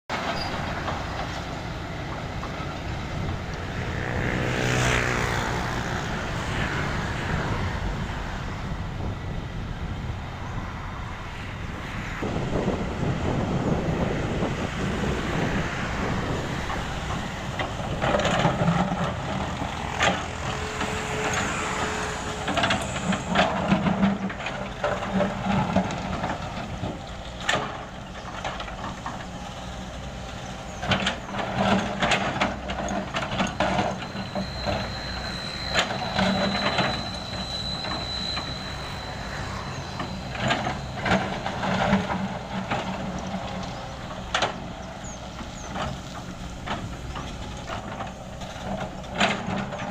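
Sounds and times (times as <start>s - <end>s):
heavy diesel machinery running: 0.1s - 49.9s.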